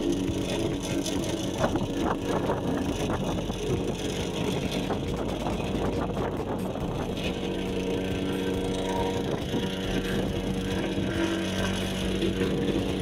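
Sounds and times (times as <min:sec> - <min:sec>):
plate compactor engine drone: 0:00.0 - 0:13.0
plate rattling and crunching asphalt: 0:00.0 - 0:13.0.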